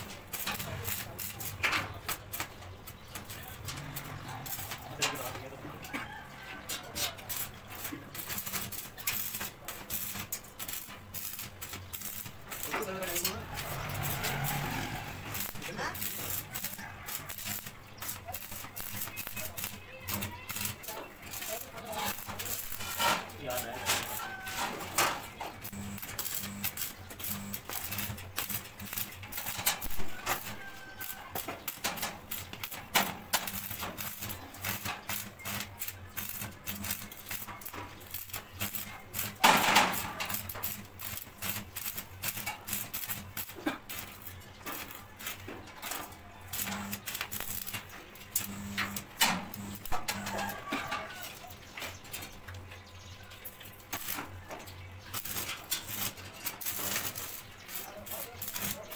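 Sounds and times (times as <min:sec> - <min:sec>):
welding arc crackling: 0:00.0 - 0:05.8, 0:06.6 - 0:52.6, 0:53.4 - 0:58.9.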